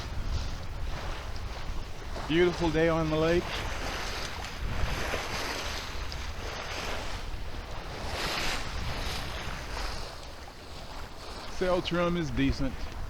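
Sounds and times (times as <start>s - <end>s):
water rushing along a hull: 0.0s - 13.0s
wind buffeting microphone: 0.0s - 13.0s.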